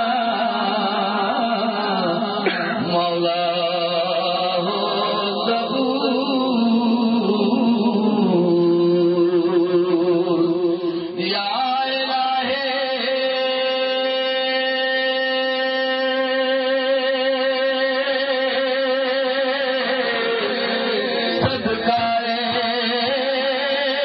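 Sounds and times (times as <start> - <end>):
man chanting through loudspeakers: 0.0 - 24.0.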